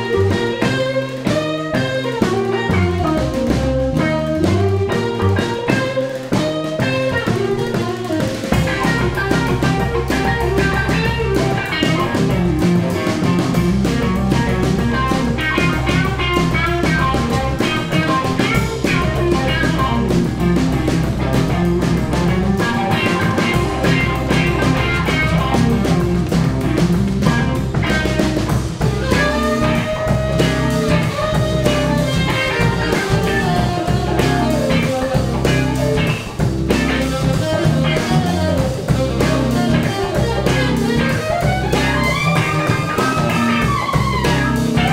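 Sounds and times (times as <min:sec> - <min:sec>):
drum kit: 0:00.0 - 0:44.9
electric guitar solo: 0:00.0 - 0:44.9
saxophone playing: 0:00.0 - 0:44.9.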